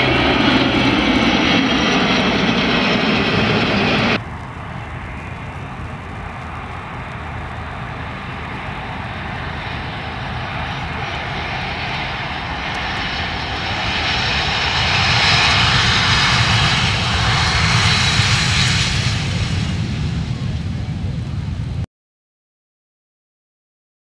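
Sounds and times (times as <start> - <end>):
aircraft engine drone: 0.0 - 21.8.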